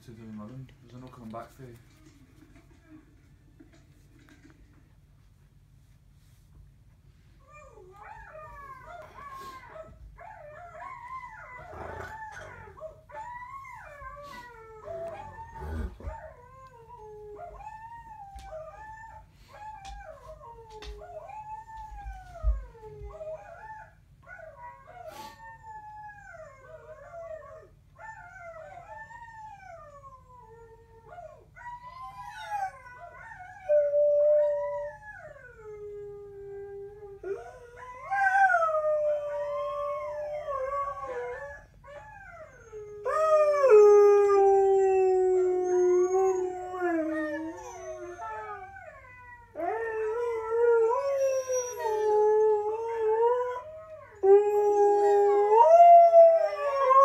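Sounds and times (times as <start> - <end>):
dogs howling: 7.6 - 25.0, 25.8 - 57.0.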